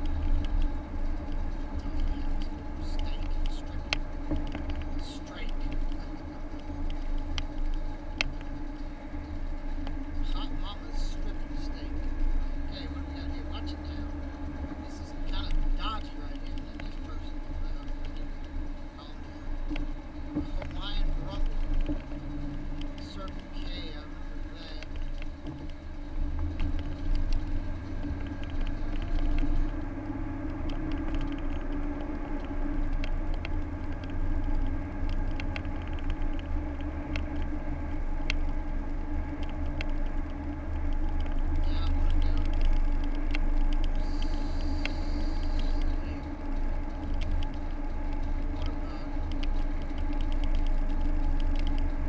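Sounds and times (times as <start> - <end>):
car engine and road noise: 0.0 - 52.0
light ticks and rattles: 0.0 - 52.0.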